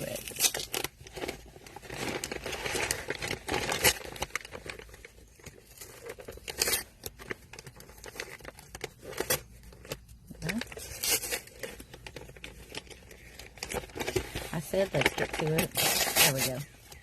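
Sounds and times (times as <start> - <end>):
package being torn open: 0.0 - 17.0
packaging crumpled by hand: 0.0 - 17.0.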